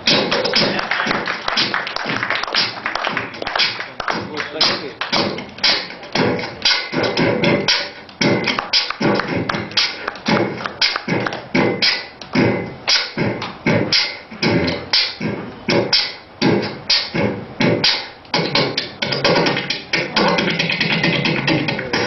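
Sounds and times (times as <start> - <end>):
beatboxing drum beat: 0.0 - 22.0.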